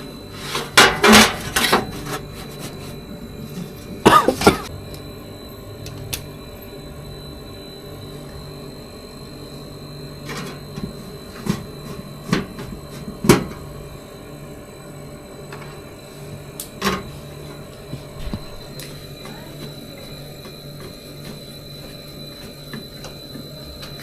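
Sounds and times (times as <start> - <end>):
refrigerator hum: 0.0 - 24.0.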